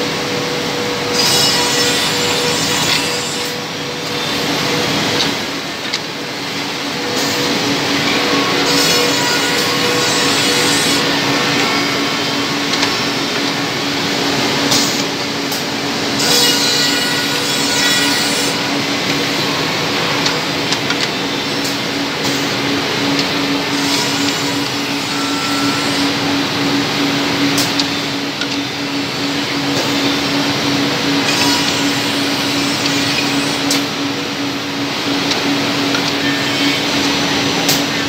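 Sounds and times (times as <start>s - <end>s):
steady motor hum: 0.0s - 38.0s.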